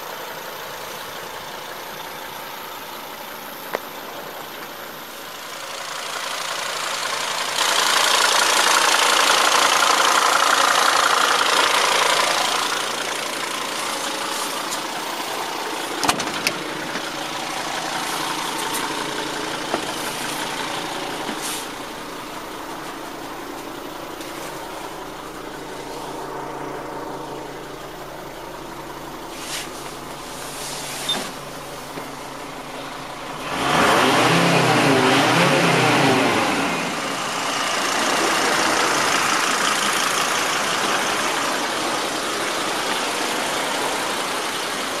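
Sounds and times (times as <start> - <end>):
diesel engine idling: 0.0 - 45.0
engine revving: 5.6 - 45.0.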